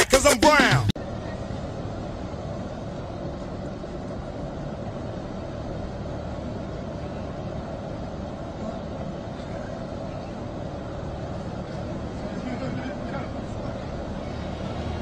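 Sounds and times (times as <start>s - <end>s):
street background hum and hiss: 0.0s - 15.0s.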